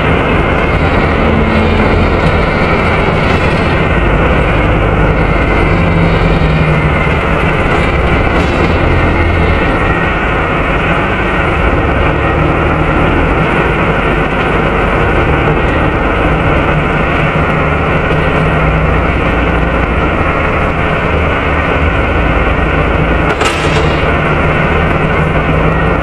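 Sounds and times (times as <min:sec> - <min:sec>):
bus diesel engine running: 0:00.0 - 0:26.0.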